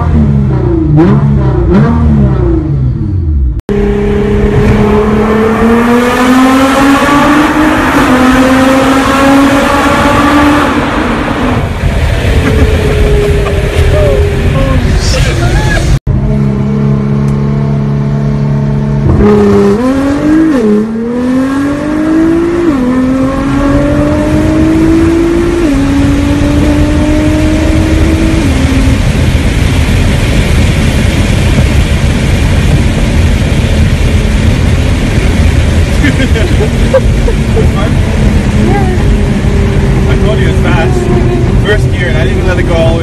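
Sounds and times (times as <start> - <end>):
car engine accelerating: 0.0 - 43.0
road noise: 0.0 - 43.0.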